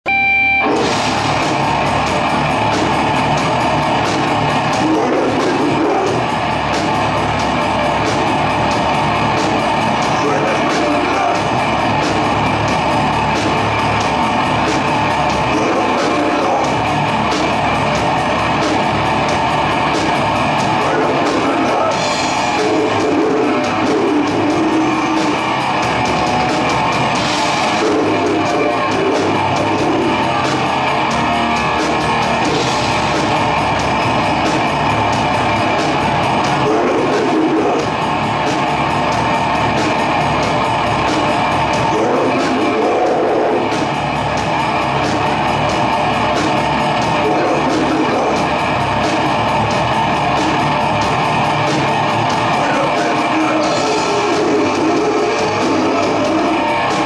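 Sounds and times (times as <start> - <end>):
bass guitar: 0.0 - 57.0
distorted electric guitars: 0.0 - 57.0
fast dense drumming: 0.1 - 57.0
harsh vocals: 0.1 - 57.0.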